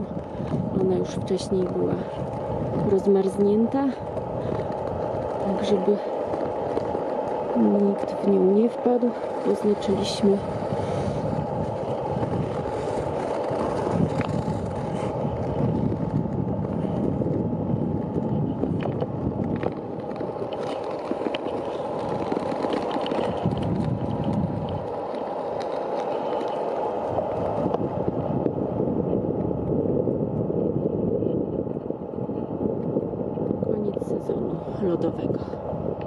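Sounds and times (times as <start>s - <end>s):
rumbling scrape over ice: 0.0s - 29.2s
wind on microphone: 0.0s - 36.0s.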